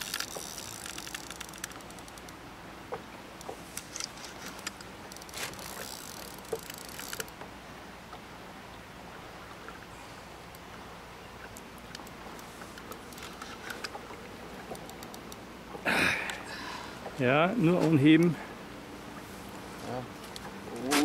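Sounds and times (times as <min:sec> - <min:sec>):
water lapping against boat: 0:00.0 - 0:21.0.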